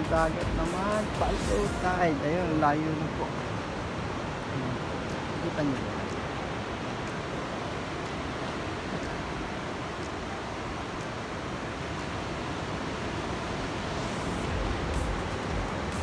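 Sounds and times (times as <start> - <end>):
sea surf rushing: 0.0 - 16.0
wind: 0.0 - 16.0.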